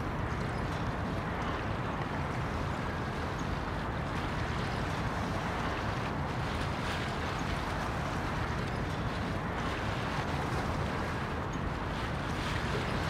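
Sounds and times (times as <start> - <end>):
rushing water: 0.0 - 13.0
wind: 0.0 - 13.0.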